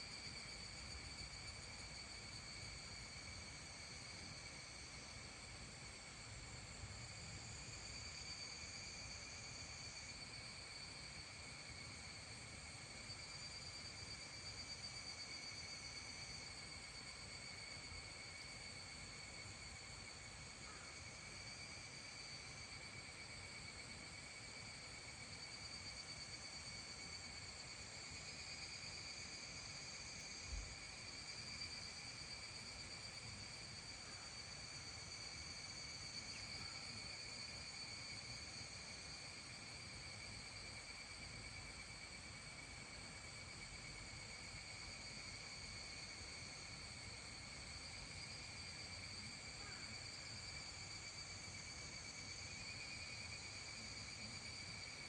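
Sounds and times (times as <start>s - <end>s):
insect high-pitched trill: 0.0s - 55.0s.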